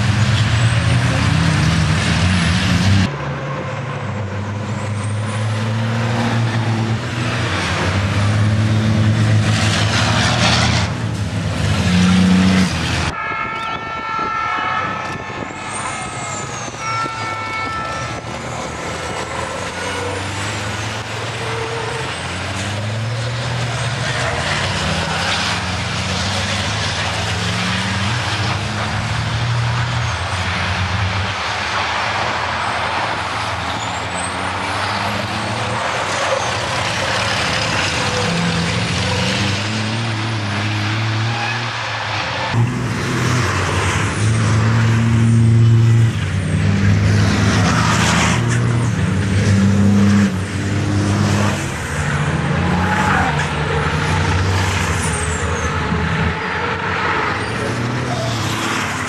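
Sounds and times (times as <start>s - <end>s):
heavy diesel truck engines: 0.0s - 59.0s.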